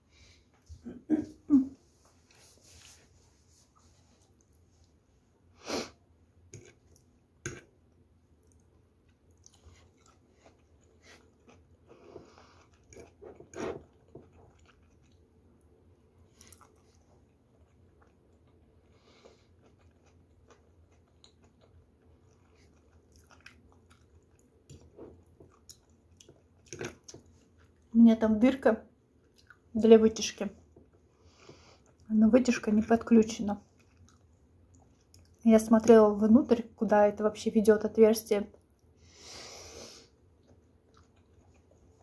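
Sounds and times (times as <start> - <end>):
soft chewing: 0.2 - 5.5, 6.4 - 28.0, 29.0 - 36.0, 38.5 - 39.2, 40.0 - 42.0.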